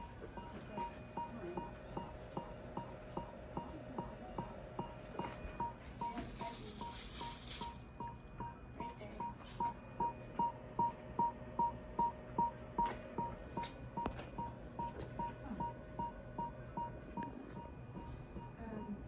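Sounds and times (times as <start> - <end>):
fetal heart monitor beeping: 0.0 - 19.0.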